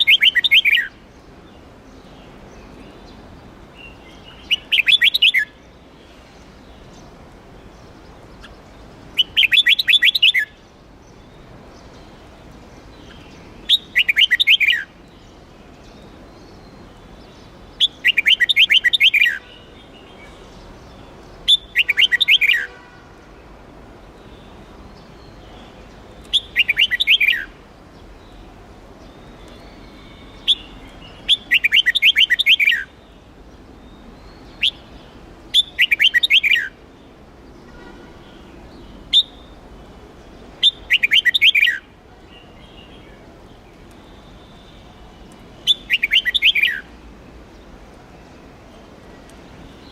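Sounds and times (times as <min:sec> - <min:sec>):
bulbul singing: 0:00.0 - 0:05.8, 0:06.8 - 0:23.0, 0:24.2 - 0:47.6.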